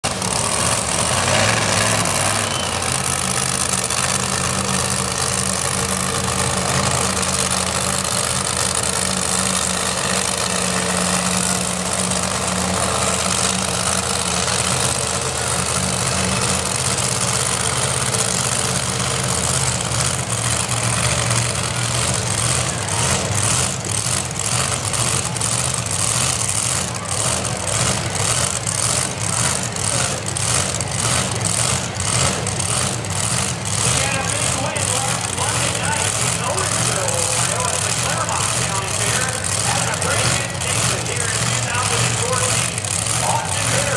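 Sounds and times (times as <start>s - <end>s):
pickup truck engine idling: 0.0s - 43.9s.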